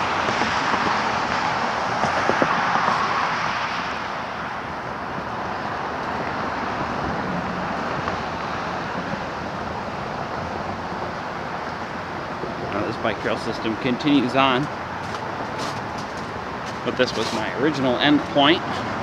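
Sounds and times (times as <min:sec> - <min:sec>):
traffic tyre and engine noise: 0:00.0 - 0:19.0
vehicle passing: 0:00.0 - 0:19.0.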